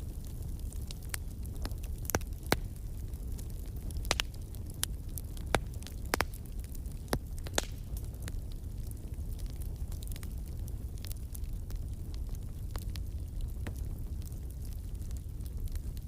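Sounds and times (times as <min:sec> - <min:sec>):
fire crackling pops: 0:00.0 - 0:16.0
wood fire rumbling: 0:00.0 - 0:16.0.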